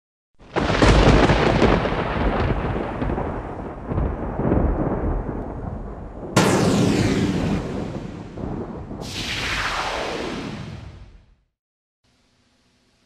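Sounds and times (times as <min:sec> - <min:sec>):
deep thunder rumble: 0:00.5 - 0:11.0
thunder crack: 0:00.5 - 0:11.2.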